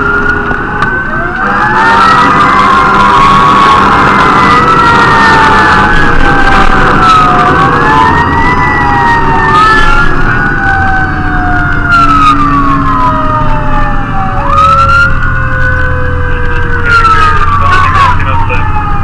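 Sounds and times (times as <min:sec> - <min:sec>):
fire engine sirens wailing: 0:00.0 - 0:19.0.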